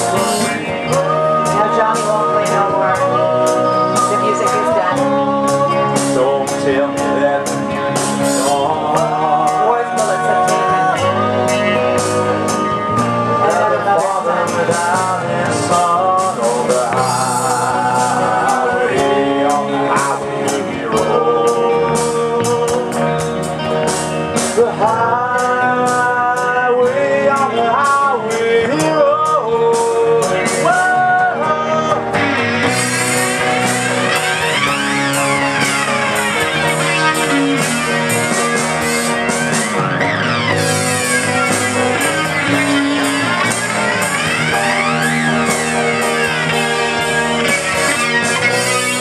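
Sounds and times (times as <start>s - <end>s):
bending lead guitar line: 0.0s - 49.0s
live rock band playing: 0.0s - 49.0s.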